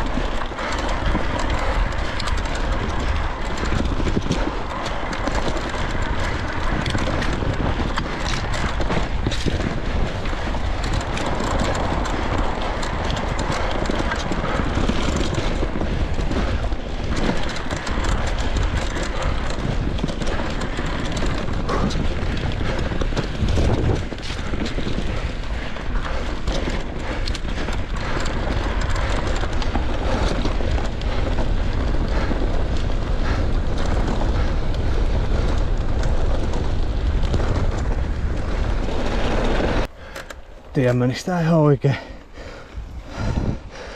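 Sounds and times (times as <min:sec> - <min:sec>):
bike knocks and rattles: 0:00.0 - 0:41.0
wind buffeting microphone: 0:00.0 - 0:43.9.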